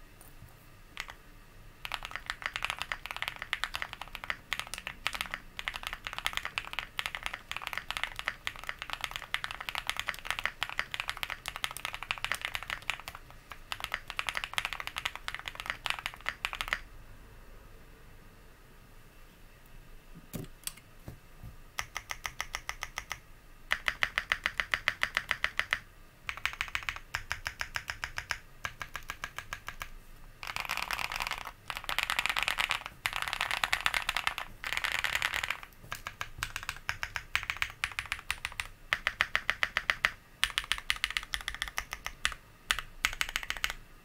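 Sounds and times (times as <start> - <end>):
rapid keyboard key clicks: 1.0 - 1.2, 1.8 - 16.8, 21.8 - 43.8.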